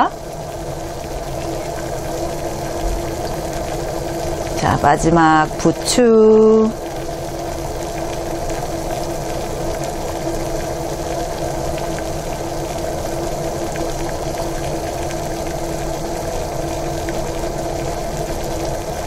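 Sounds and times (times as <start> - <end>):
low electric hum: 0.0 - 19.0
soup bubbling in a pot: 0.0 - 19.0.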